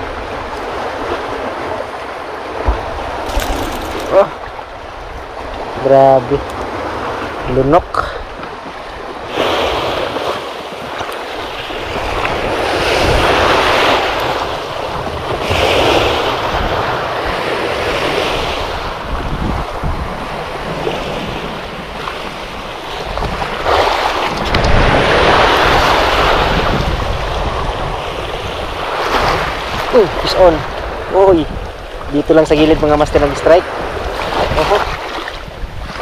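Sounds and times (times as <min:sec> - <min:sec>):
waves on a rocky shore: 0:00.0 - 0:36.0
wind rumble on microphone: 0:00.0 - 0:36.0.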